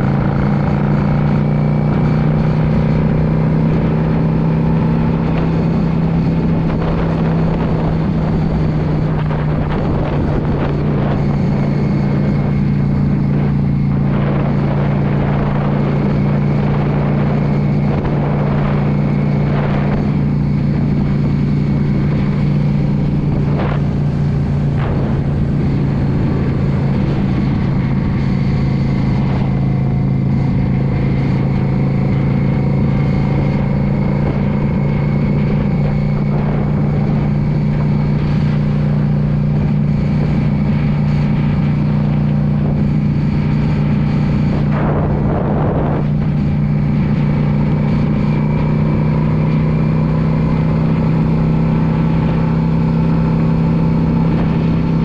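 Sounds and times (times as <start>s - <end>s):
motorcycle engine running: 0.0s - 55.0s
whoosh of noise: 0.0s - 55.0s.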